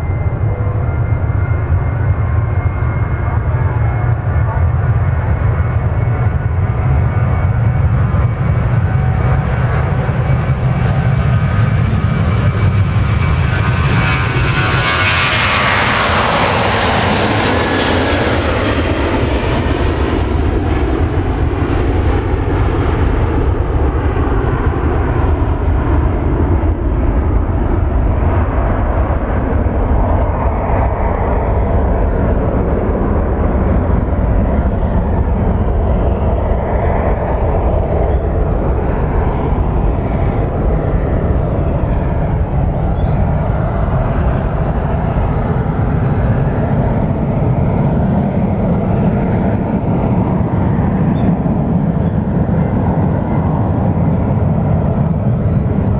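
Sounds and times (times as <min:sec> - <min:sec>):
jet engines taking off: 0:00.0 - 0:55.9.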